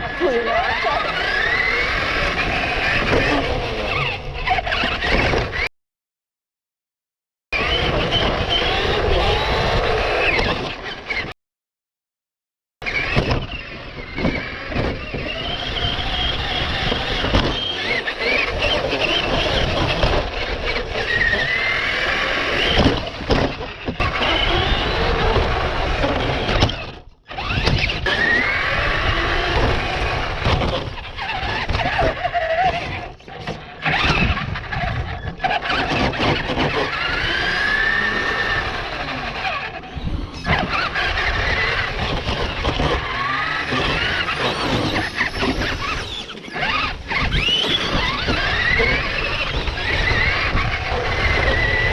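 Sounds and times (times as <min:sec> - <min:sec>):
toy car motor whining: 0:00.0 - 0:05.7, 0:07.6 - 0:11.3, 0:12.8 - 0:51.9
tyre and road rumble: 0:00.0 - 0:05.7, 0:12.8 - 0:51.9.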